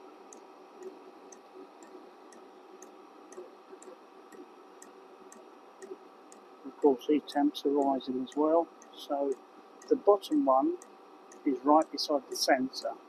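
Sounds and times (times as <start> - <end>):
heater fan whirring: 0.0 - 13.0.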